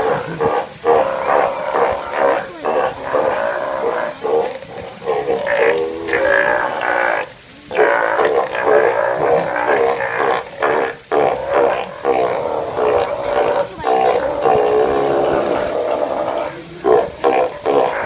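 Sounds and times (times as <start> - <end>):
sea lions calling: 0.0 - 18.0.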